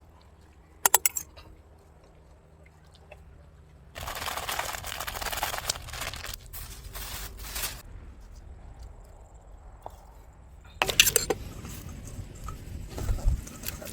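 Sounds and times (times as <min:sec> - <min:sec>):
rustling and crinkling: 0:00.3 - 0:13.9.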